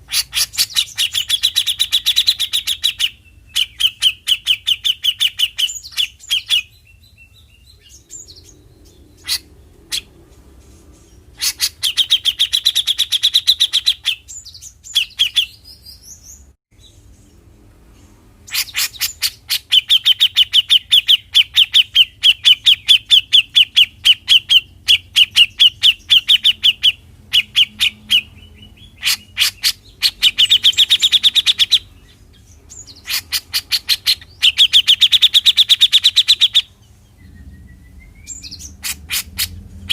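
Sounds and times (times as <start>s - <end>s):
bird giving harsh rapid calls: 0.0s - 6.9s, 7.8s - 10.2s, 11.1s - 15.8s, 18.4s - 36.8s, 38.2s - 39.9s.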